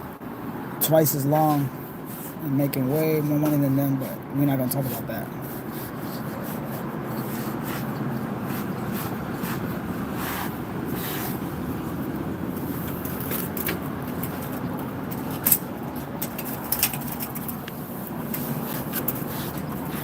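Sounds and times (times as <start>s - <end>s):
low background rumble: 1.6s - 20.0s.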